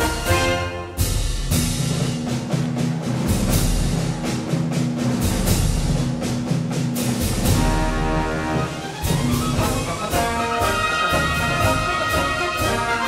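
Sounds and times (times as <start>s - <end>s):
drum and percussion beat: 0.0s - 13.0s.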